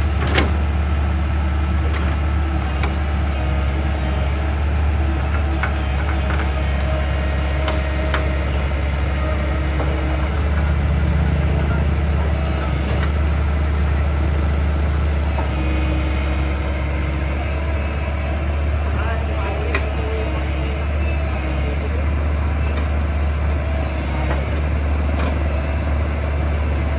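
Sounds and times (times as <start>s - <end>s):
backhoe diesel engine humming: 0.0s - 26.9s.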